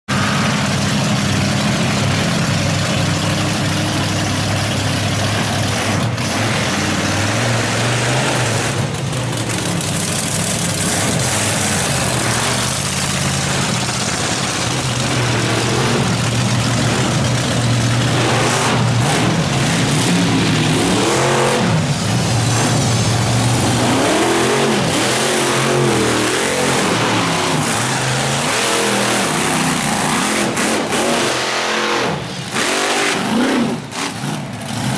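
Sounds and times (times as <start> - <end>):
monster truck engines revving: 0.1 - 34.9.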